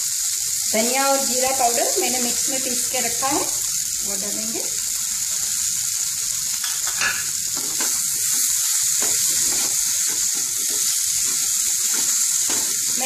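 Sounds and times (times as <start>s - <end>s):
okra sizzling in a pan: 0.0s - 13.0s.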